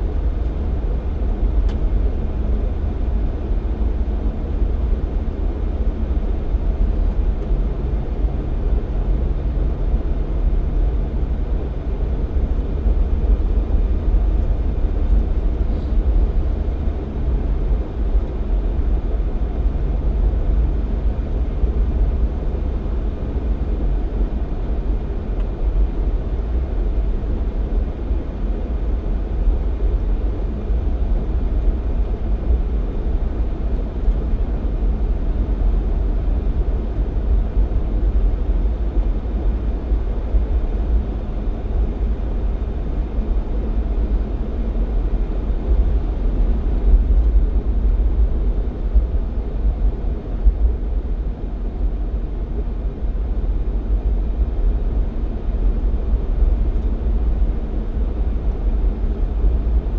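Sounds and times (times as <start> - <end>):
car driving on road: 0.0 - 59.9.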